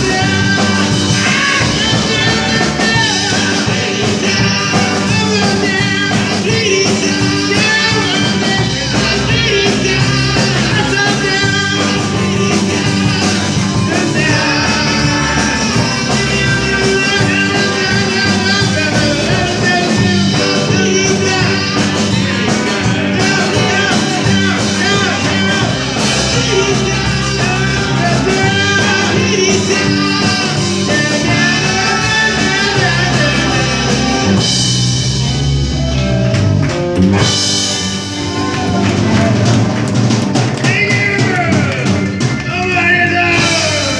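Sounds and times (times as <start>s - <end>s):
drum kit beat: 0.0s - 43.9s
electric guitars: 0.0s - 43.9s
rock band playing live: 0.0s - 43.9s.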